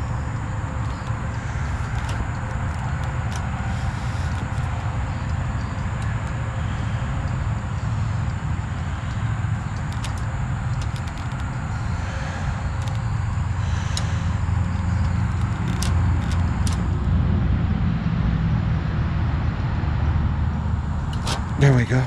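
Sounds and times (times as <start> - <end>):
motor running with low rumble: 0.0 - 22.0.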